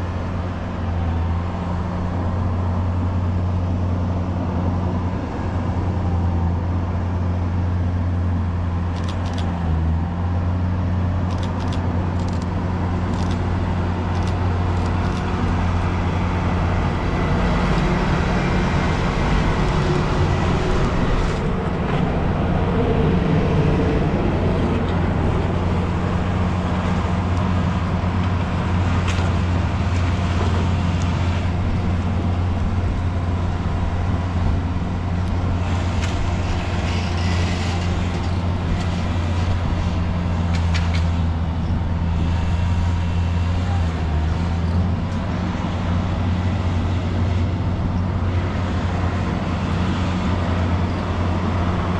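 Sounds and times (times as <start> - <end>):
train running hum: 0.0 - 51.9.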